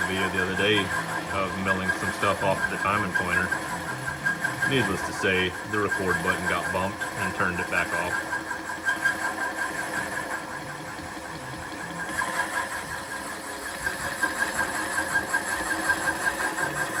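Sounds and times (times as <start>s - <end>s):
machine hum: 0.0s - 17.0s
milling machine high whine: 0.0s - 17.0s.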